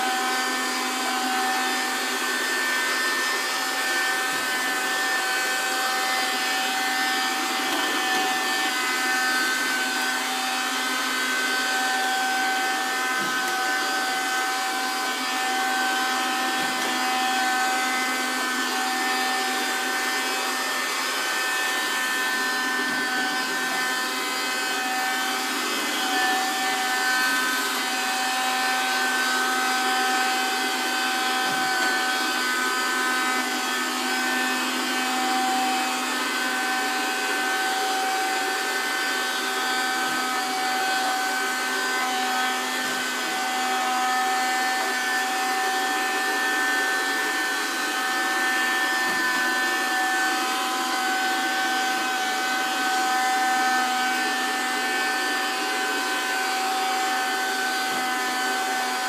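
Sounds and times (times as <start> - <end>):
robot vacuum motor whine: 0.0 - 59.0.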